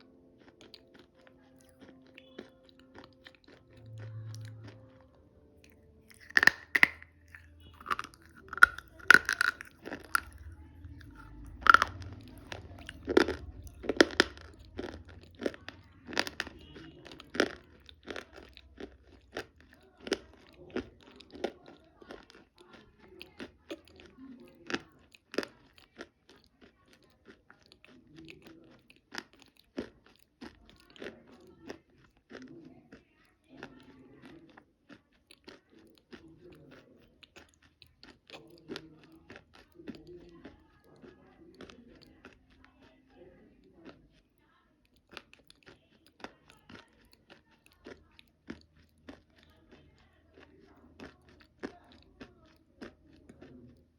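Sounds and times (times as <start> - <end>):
chewing and crunching chalk: 0.0 - 53.9.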